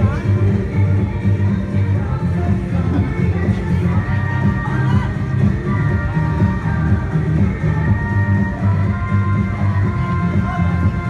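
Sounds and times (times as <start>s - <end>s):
pop dance track over loudspeaker: 0.0s - 11.0s.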